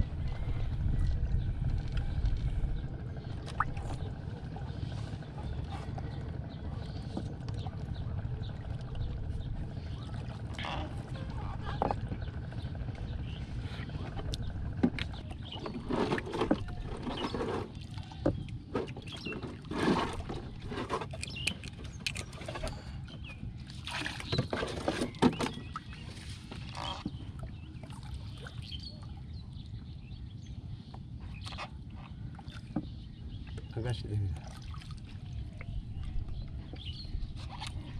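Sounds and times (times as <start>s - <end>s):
water: 0.0s - 37.9s
wind: 0.0s - 37.9s.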